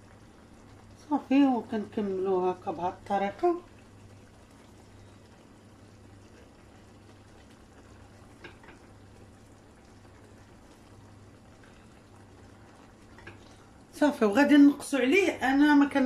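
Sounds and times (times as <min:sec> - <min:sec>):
low steady hum: 0:00.0 - 0:16.0
sauce simmering: 0:00.0 - 0:16.0.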